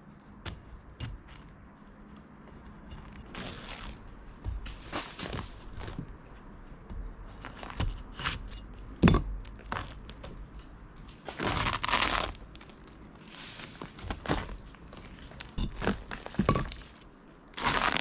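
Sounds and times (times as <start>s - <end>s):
scraping roofing felt: 0.0s - 18.0s.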